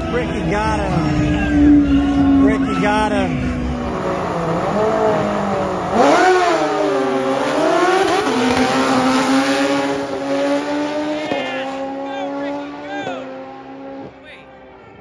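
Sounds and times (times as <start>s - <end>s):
motorcycle engines revving: 0.0s - 14.7s.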